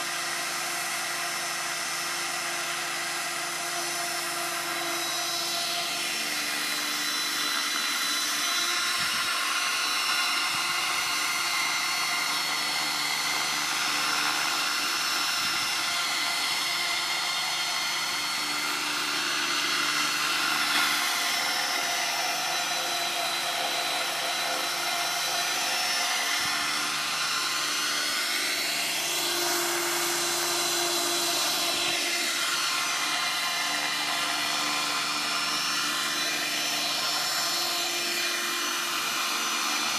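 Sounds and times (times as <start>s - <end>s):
model helicopter whine: 0.0s - 39.9s.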